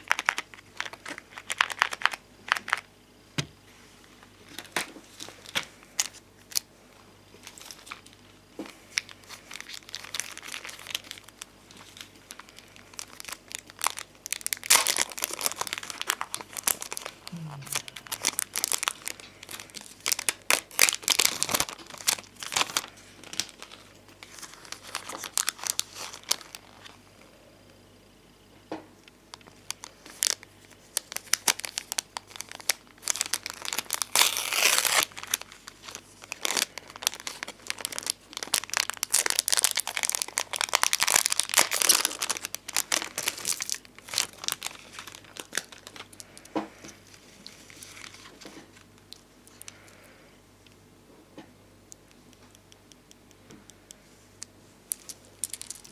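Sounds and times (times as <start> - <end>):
plastic sheets crinkling: 0.0 - 2.9, 4.4 - 6.7, 7.4 - 27.0, 29.3 - 49.9, 54.9 - 55.9.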